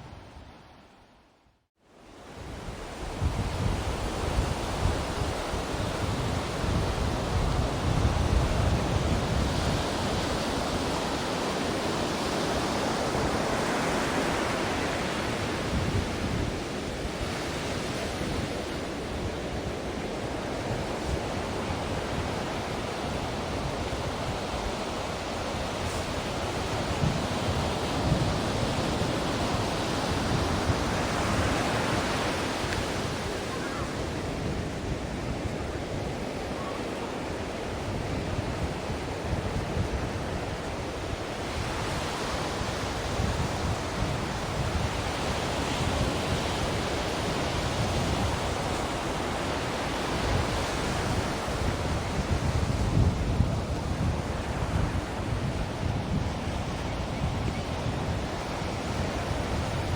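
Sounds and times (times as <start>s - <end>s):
ocean waves breaking on shore: 1.9s - 59.9s.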